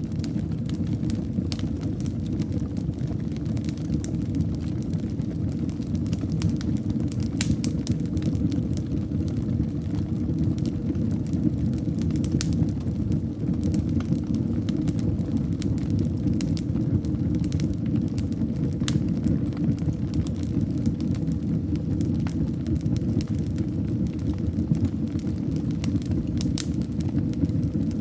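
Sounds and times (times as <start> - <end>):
fire crackling and popping: 0.0 - 28.0
wood fire burning: 0.0 - 28.0.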